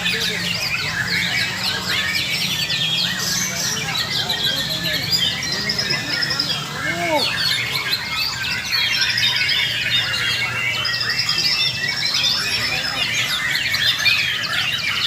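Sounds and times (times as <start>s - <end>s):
chorus of songbirds singing: 0.0s - 15.0s
low background murmur: 0.0s - 15.0s.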